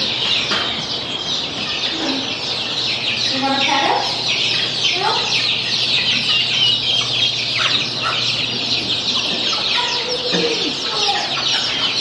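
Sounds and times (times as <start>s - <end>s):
baby chicks peeping: 0.0s - 12.0s
lower bird calls: 0.0s - 12.0s.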